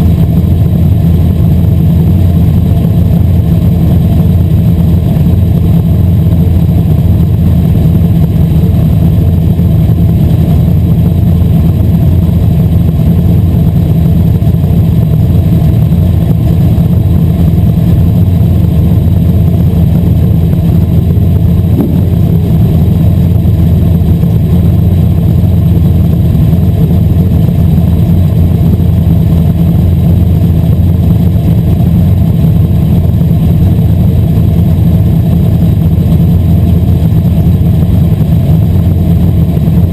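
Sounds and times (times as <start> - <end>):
race car engine roaring: 0.0 - 39.9.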